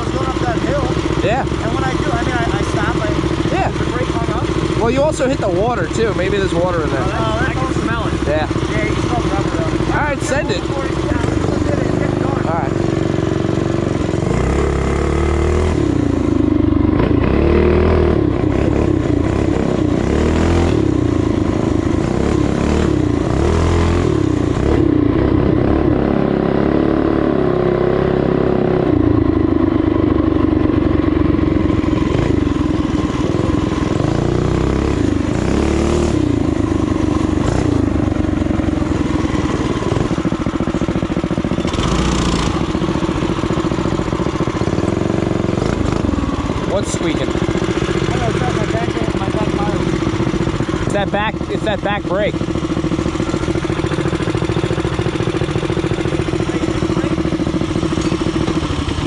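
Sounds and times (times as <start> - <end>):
off-road bike engines revving: 0.0 - 59.0.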